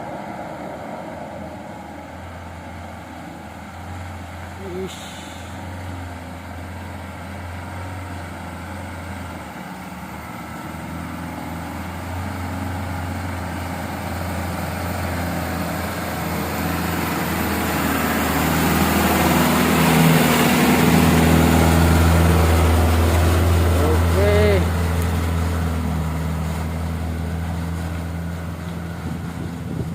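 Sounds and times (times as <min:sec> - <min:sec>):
truck diesel engine running: 0:00.0 - 0:29.9.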